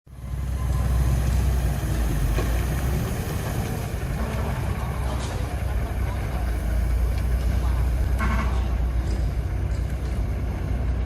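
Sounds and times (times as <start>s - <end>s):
heavy engine rumbling: 0.1s - 11.0s.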